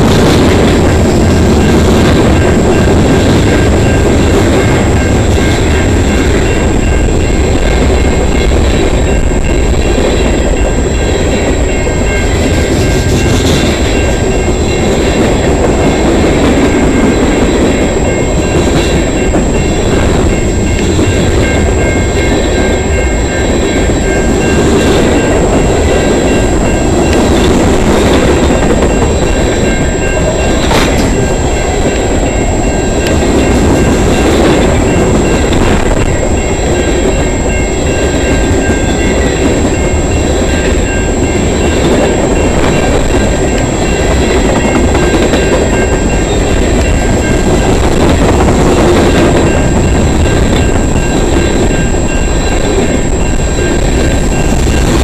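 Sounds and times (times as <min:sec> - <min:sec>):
crossing bell ringing: 0:00.0 - 0:55.0
train wheels rumbling on rails: 0:00.0 - 0:55.0
wheels clicking on rail joints: 0:00.0 - 0:55.0.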